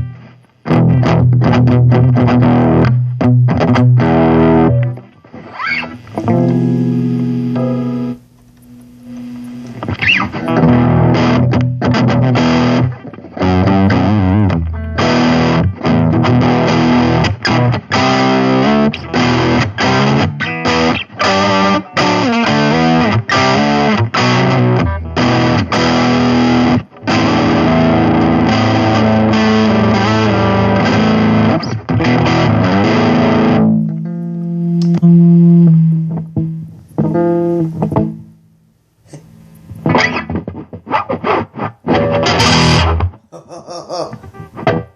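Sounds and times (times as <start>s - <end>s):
distorted electric guitar: 0.0s - 38.4s, 39.0s - 44.9s.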